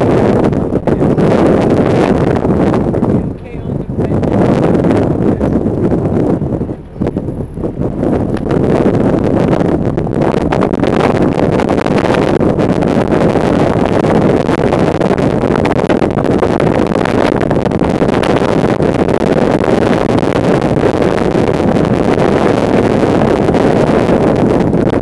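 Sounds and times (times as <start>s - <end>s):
car engine and tyre rumble: 0.0s - 25.0s
wind buffeting microphone: 0.0s - 25.0s.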